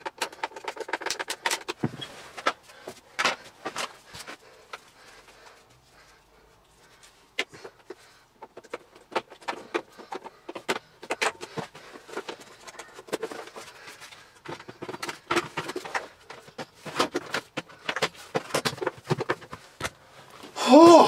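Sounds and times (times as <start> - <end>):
hard plastic parts clicking: 0.0 - 4.9, 7.4 - 20.0.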